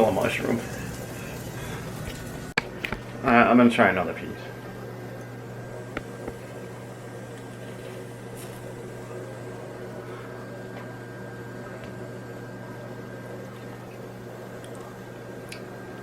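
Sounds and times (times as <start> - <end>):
appliance humming: 0.0 - 16.0.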